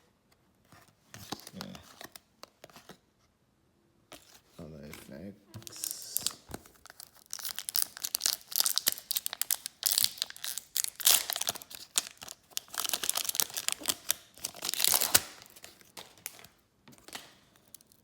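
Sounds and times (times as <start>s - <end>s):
cards rustling and clicking: 0.8s - 3.0s, 4.1s - 18.0s.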